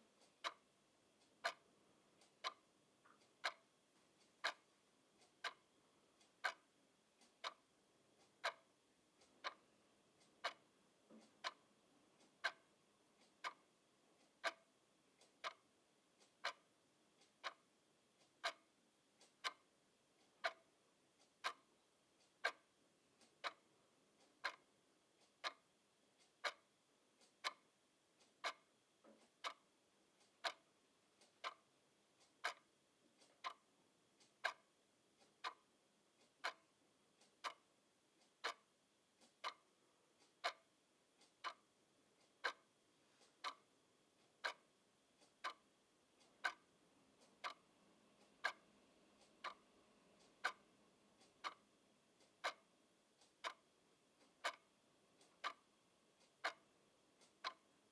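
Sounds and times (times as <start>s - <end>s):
mechanical clock ticking: 0.0s - 9.6s, 10.2s - 57.9s.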